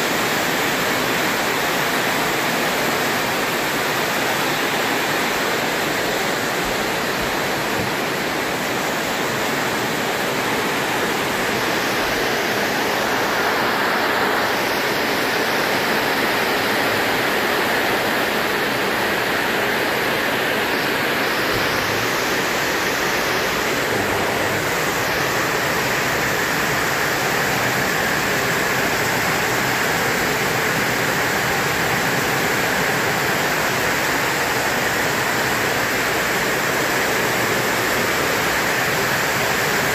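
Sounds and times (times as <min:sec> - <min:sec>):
rain on roof: 0:00.0 - 0:39.9.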